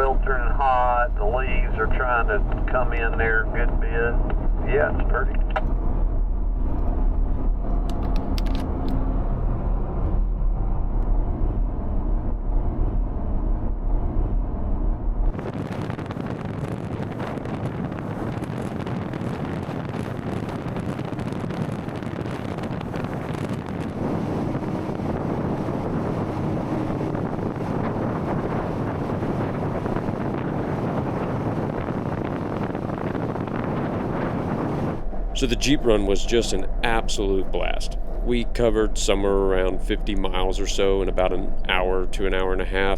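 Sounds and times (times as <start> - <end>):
car engine and road drone: 0.0 - 42.9
wind rushing across microphone: 0.0 - 42.9.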